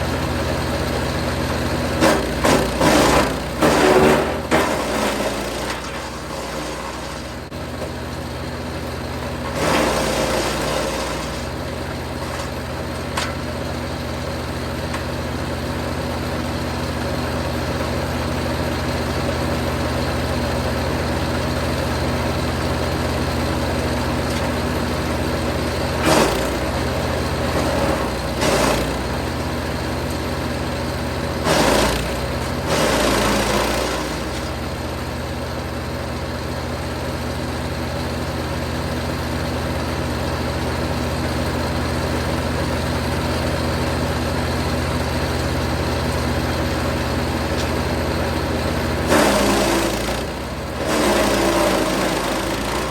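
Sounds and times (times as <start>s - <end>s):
wood chipper running: 0.0s - 52.9s.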